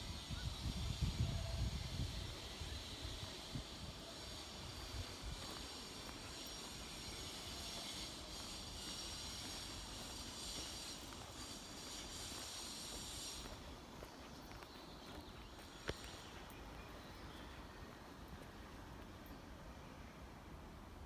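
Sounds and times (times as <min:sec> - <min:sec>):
high hiss: 0:00.0 - 0:20.4.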